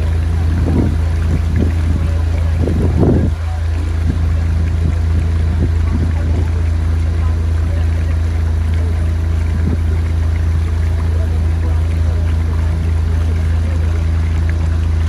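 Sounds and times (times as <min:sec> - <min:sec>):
motorboat engine running: 0:00.0 - 0:15.0
water washing along hull: 0:00.0 - 0:15.0.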